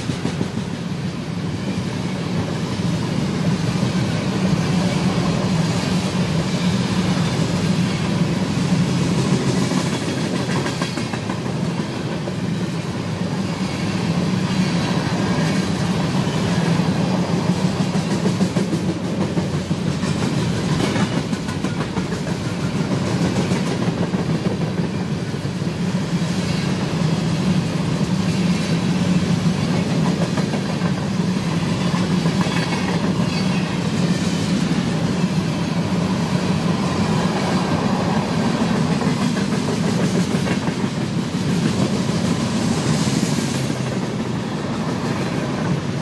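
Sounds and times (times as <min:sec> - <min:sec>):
freight train wheels rumbling: 0:00.0 - 0:46.0
wheels clicking on rail: 0:02.1 - 0:46.0.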